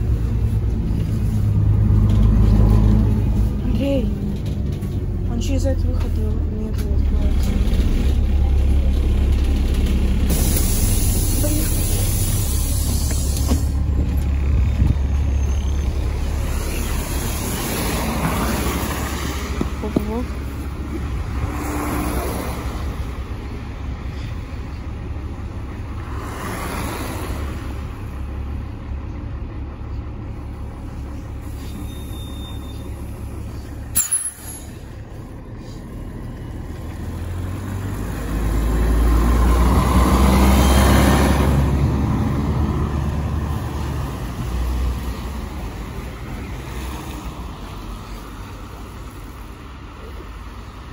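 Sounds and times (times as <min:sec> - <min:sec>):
bus engine running: 0:00.0 - 0:50.9
road noise: 0:00.0 - 0:50.9.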